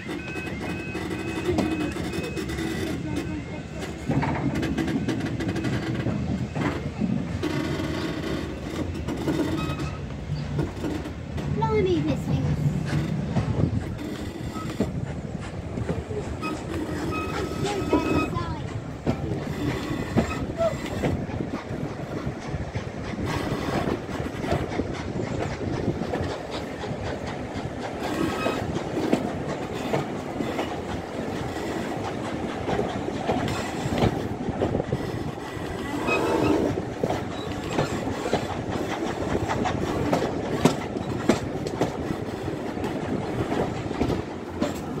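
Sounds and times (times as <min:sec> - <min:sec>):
train carriage rumble: 0:00.0 - 0:45.0
wheels clattering over rail joints: 0:00.0 - 0:45.0.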